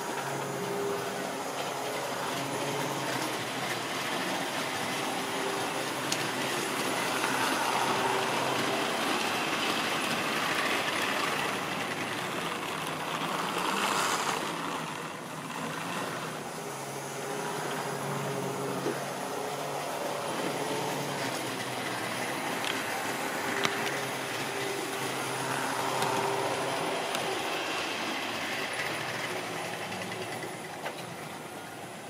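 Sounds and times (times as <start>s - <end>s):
model train rattling past: 0.0s - 32.0s.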